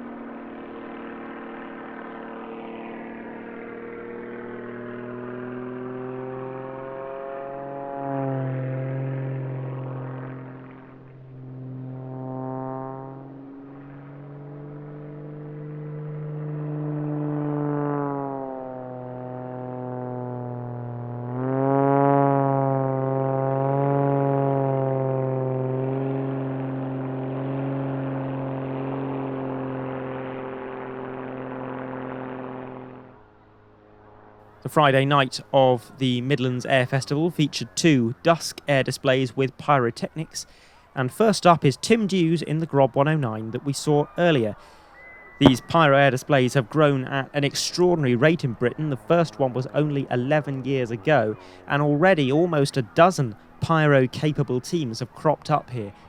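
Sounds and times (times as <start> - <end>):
propeller plane engine: 0.0 - 56.0.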